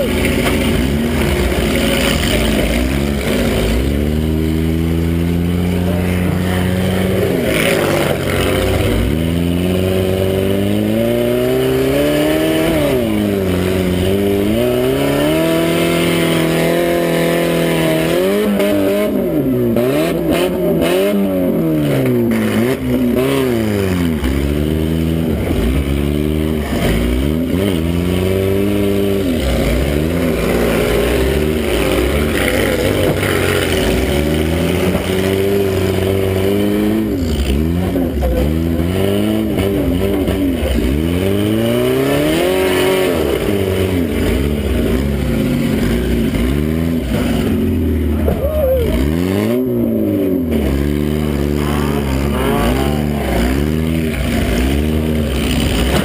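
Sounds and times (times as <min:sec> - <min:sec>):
mini truck engine revving: 0:00.0 - 0:56.0.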